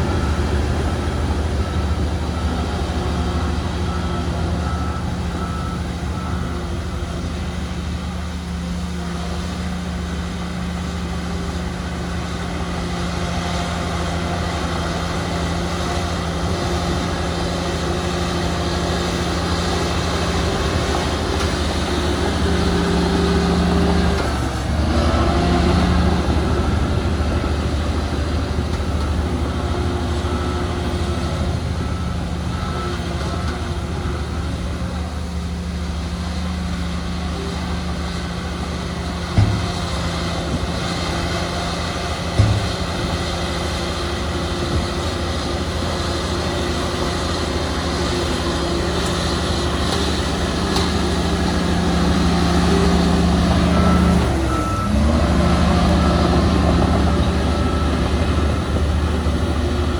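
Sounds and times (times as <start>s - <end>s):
heavy diesel machinery running: 0.0s - 59.9s
reversing alarm beeping: 0.0s - 59.9s.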